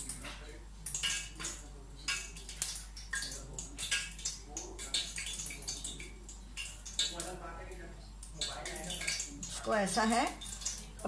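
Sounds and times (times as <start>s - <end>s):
wet squishing and splashing: 0.9s - 7.4s, 8.2s - 11.0s.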